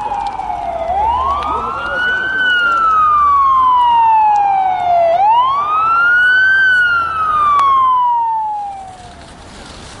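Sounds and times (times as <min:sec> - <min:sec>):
emergency siren wailing: 0:00.0 - 0:09.9.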